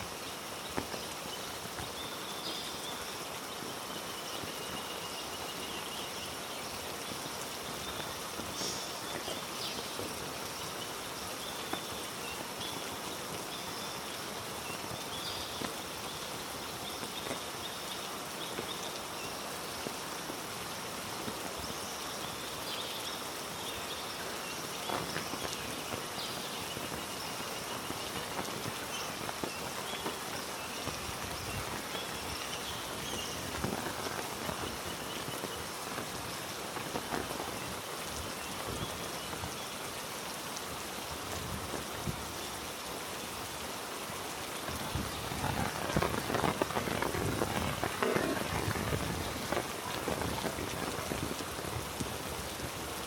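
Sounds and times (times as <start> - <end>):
close drips and splats: 0.0 - 53.0
heavy rain falling: 0.0 - 53.0.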